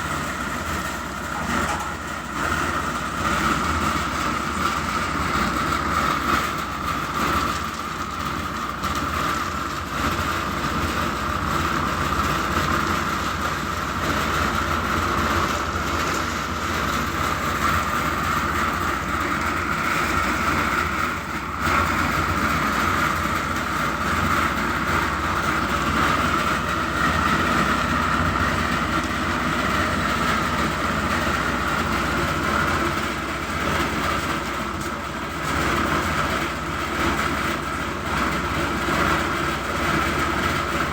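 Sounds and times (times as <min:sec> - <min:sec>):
construction machine engine whine: 0:00.0 - 0:40.9.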